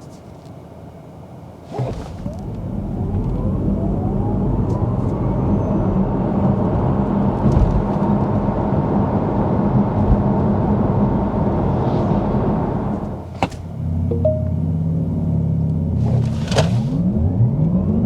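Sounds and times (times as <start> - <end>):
road and tyre noise: 0.0 - 18.0.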